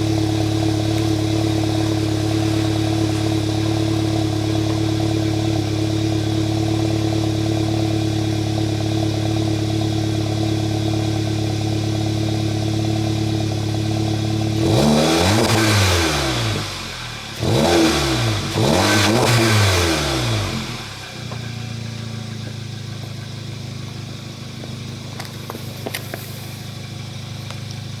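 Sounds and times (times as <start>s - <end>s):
car engine idling: 0.0s - 28.0s
car engine revving: 0.0s - 28.0s.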